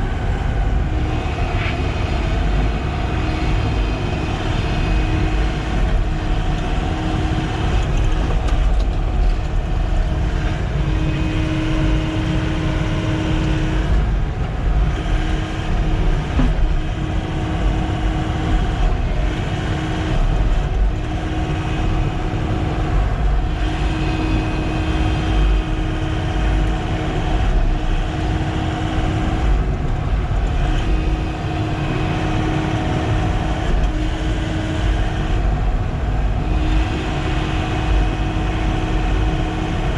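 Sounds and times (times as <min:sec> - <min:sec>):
excavator diesel engine running: 0:00.0 - 0:39.9
hydraulic whine: 0:00.0 - 0:39.9.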